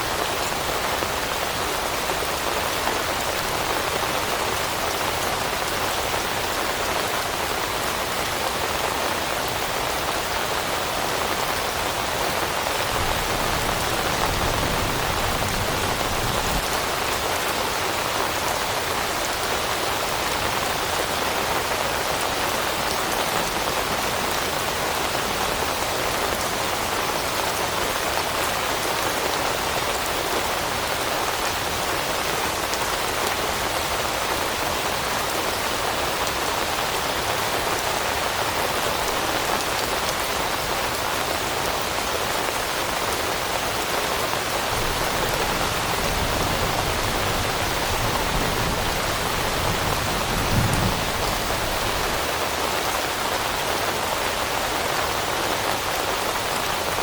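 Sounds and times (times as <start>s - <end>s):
rain on leaves: 0.0s - 57.0s.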